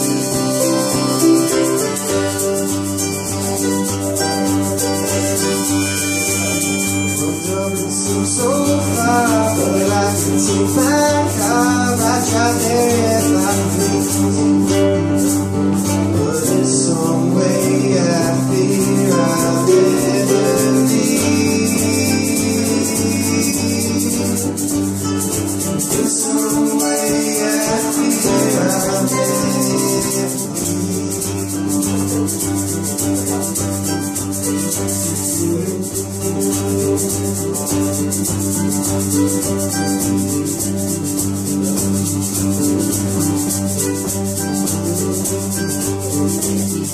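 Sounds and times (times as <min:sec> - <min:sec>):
bass notes: 0:00.0 - 0:46.9
shaker rhythm: 0:00.0 - 0:46.9
strummed acoustic guitar: 0:00.0 - 0:46.9
wavering melody line: 0:00.0 - 0:46.9.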